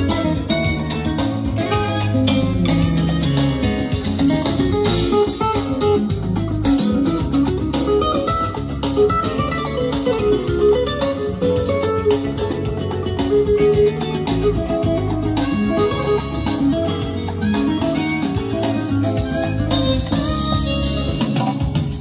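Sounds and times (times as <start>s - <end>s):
plucked guitar music over speakers: 0.0s - 22.0s.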